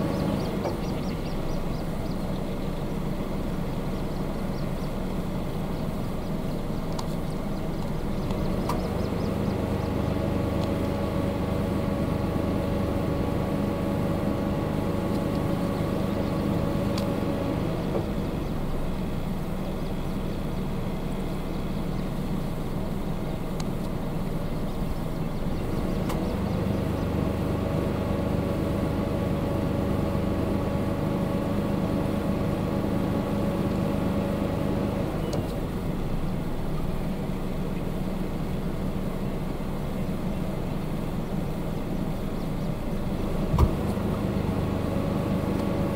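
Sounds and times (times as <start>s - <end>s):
engine low rumble: 0.0s - 45.9s.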